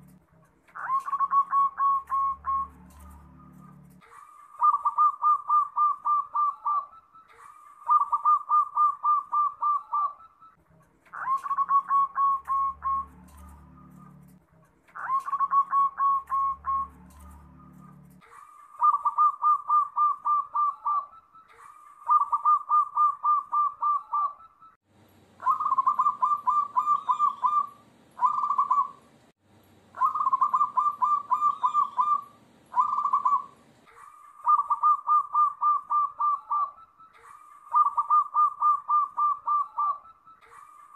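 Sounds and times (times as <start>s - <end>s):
dove cooing: 0.8s - 7.2s, 7.8s - 10.5s, 11.1s - 21.3s, 22.0s - 24.6s, 25.4s - 29.1s, 30.0s - 40.7s.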